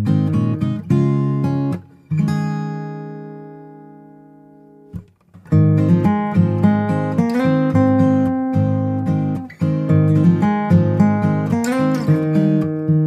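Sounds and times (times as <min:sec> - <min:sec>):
strummed acoustic guitar chords: 0:00.0 - 0:13.0.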